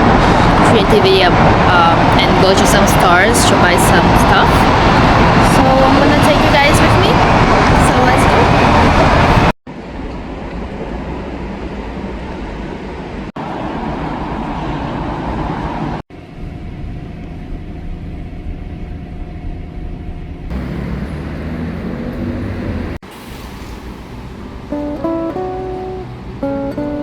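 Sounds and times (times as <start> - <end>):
moving vehicle rumble: 0.0 - 27.0.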